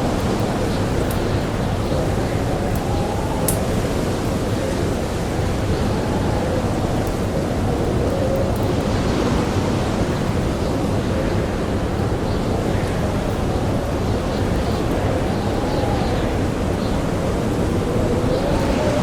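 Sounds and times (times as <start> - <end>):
howling blizzard wind: 0.0 - 19.0.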